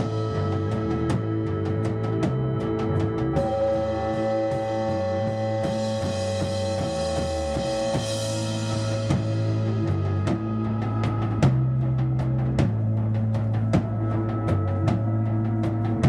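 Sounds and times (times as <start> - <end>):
live band playing: 0.0 - 12.9
drum kit beating: 0.0 - 16.0.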